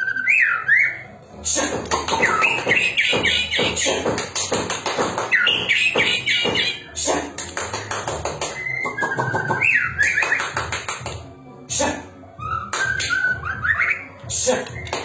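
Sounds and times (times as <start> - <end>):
bird singing varied song: 0.0 - 11.0, 12.3 - 15.0.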